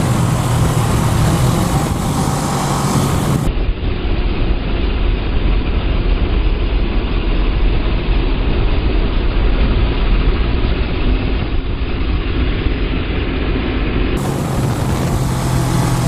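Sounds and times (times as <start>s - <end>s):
motorcycle engine drone: 0.0s - 16.0s
wind rumble over microphone: 0.0s - 16.0s.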